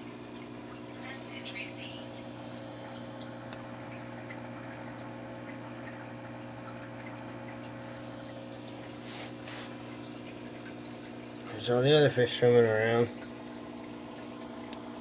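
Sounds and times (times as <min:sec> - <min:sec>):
aquarium pump humming: 0:00.0 - 0:15.0
water trickling and bubbling: 0:00.0 - 0:15.0.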